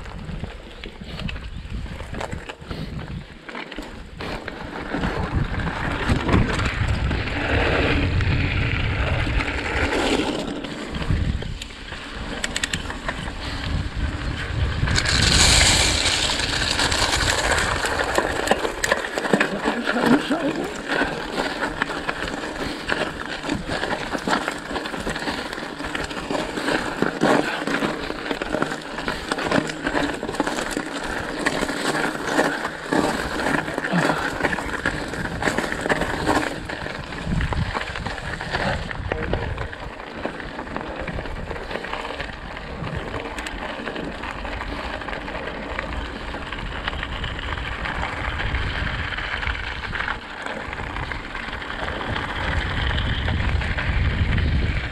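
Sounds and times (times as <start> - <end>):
bike rattling over stones: 0.0 - 54.9
bike tyres crunching on gravel: 0.0 - 54.9
wind rumbling on microphone: 0.0 - 54.9
gravel hiss: 0.1 - 54.9.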